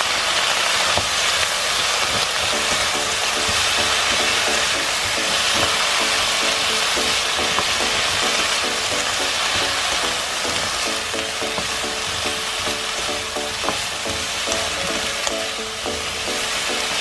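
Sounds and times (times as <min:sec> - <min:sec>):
peppers sizzling in a wok: 0:00.0 - 0:17.0
spatula tapping a pan: 0:02.2 - 0:17.0.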